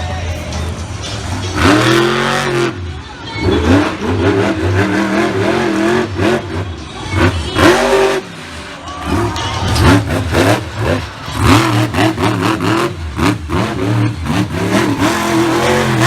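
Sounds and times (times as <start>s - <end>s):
monster truck engine revving: 1.1s - 16.0s.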